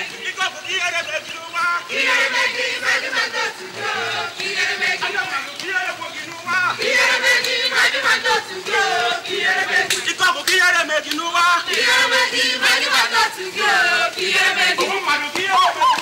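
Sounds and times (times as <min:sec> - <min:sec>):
crowd chanting and singing: 0:00.0 - 0:16.0
loud shouts: 0:00.0 - 0:16.0.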